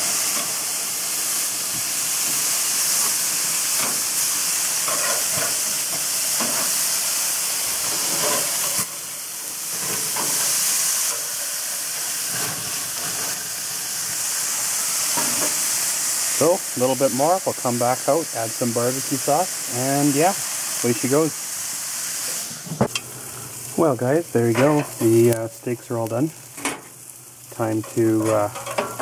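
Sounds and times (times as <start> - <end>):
steaks sizzling on a grill: 0.0 - 29.0.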